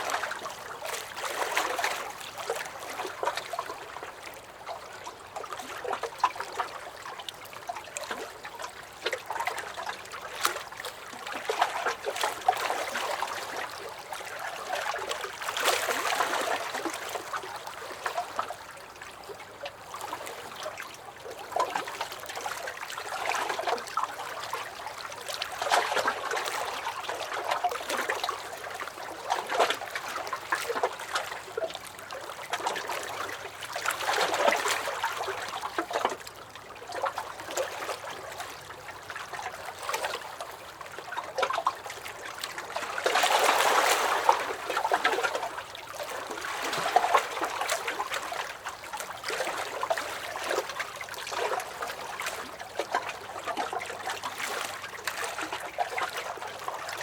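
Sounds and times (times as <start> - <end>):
water lapping against a dock: 0.0 - 57.0.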